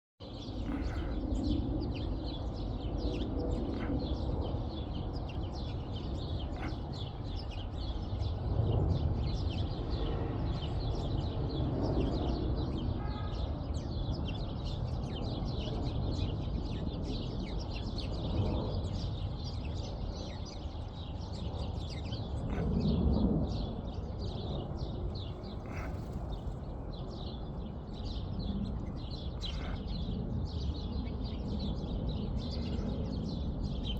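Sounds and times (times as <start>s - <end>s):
steady low rumble: 0.2s - 13.0s, 14.1s - 33.9s
small birds chirping: 0.2s - 33.9s.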